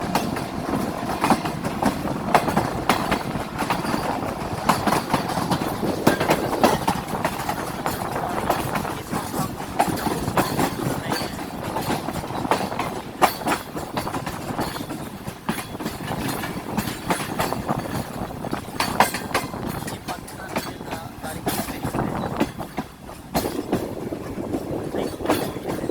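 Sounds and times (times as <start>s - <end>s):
knocks and rattles: 0.0s - 25.9s
train rumble: 0.0s - 25.9s
train wheels clacking: 0.0s - 25.9s.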